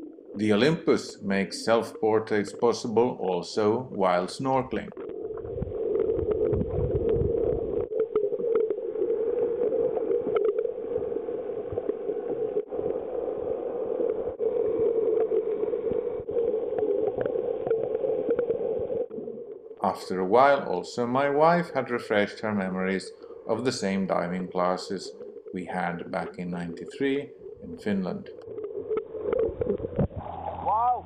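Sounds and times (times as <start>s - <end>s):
muffled underwater rushing: 0.0s - 31.0s.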